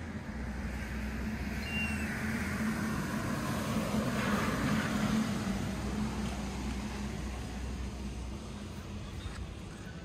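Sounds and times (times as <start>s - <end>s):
road traffic rumble and hiss: 0.0s - 10.0s.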